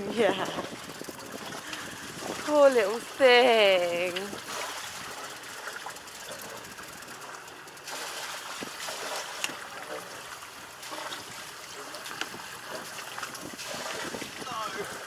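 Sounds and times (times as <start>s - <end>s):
water rushing past a hull: 0.0s - 15.0s.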